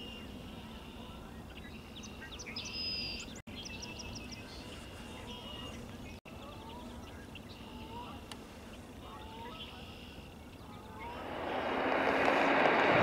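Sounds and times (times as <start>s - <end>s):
small birds chirping and trilling: 0.0s - 11.4s
low outdoor background noise: 0.0s - 13.0s.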